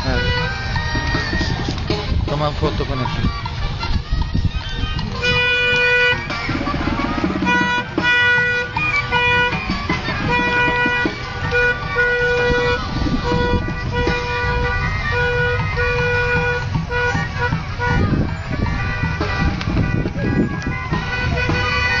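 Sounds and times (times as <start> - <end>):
car horn honking: 0.0 - 1.0, 5.2 - 22.0
rumble of moving vehicles: 0.0 - 22.0.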